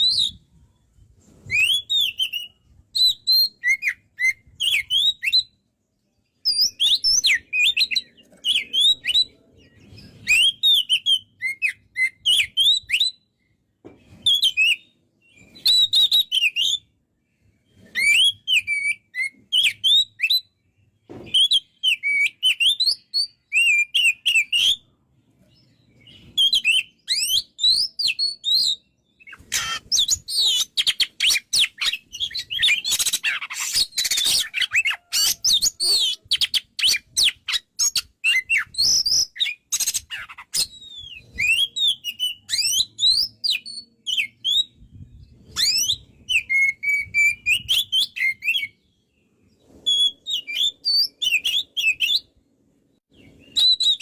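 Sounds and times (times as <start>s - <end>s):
bird singing whistled notes: 0.0s - 5.7s, 6.4s - 16.9s, 17.7s - 25.0s, 25.6s - 52.4s, 53.0s - 54.0s.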